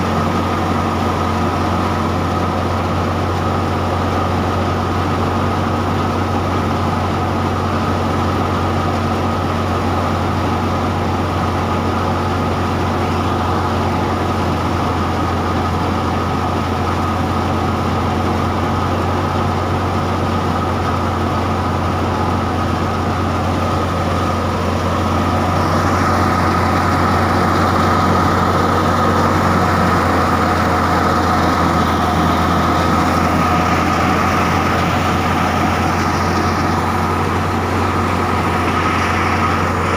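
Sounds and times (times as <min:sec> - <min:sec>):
steady high whine: 0:00.0 - 0:39.9
tractor and thresher drone: 0:00.0 - 0:39.9.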